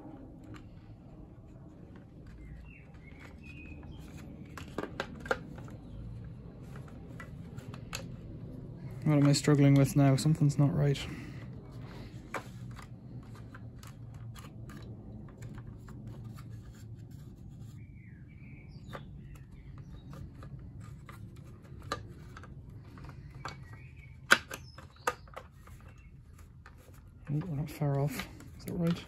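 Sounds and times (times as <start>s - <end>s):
plastic parts clicking and scraping: 0.1s - 29.0s.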